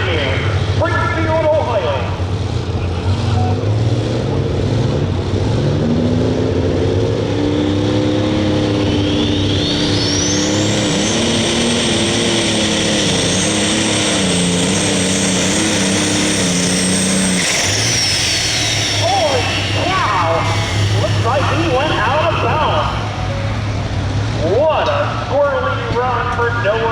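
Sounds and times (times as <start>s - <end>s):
high turbocharger whine: 0.0s - 26.9s
tractor engine under full load: 0.0s - 26.9s.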